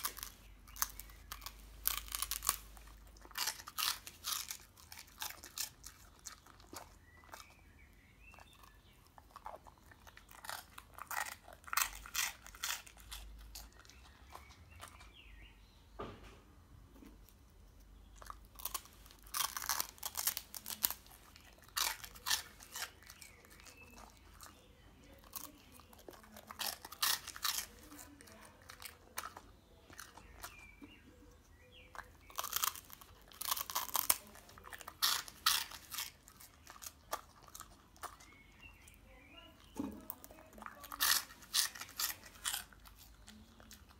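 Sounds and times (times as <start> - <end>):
dog crunching snacks: 0.0 - 7.6, 8.3 - 15.1, 18.2 - 30.9, 31.9 - 43.9.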